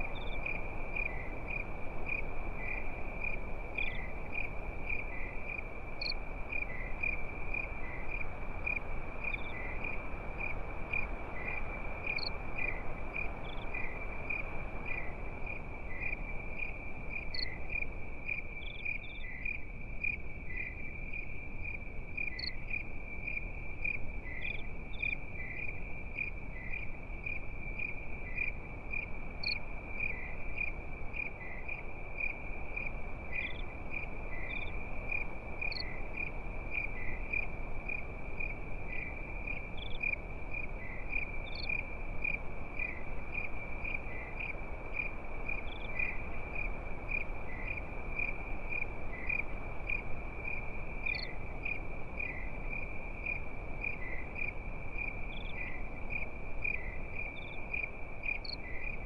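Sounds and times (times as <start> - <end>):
crickets chirping: 0.0 - 59.0
low hiss: 0.0 - 59.0.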